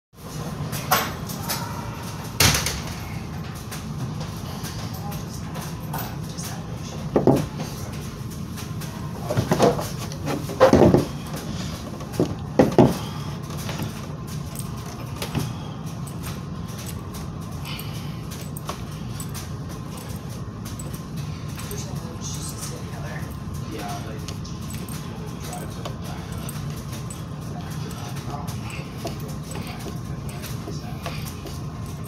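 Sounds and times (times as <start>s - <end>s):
steady low hum: 0.2s - 32.0s.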